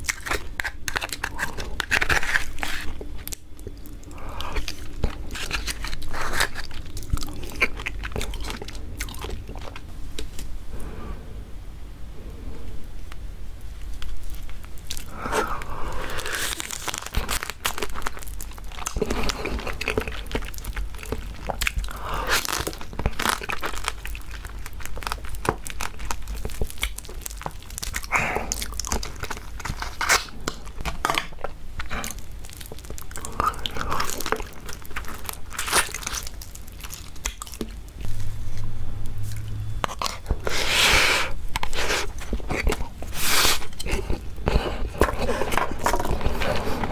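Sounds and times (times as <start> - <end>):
crunching and chewing: 0.0 - 10.6, 13.8 - 46.9.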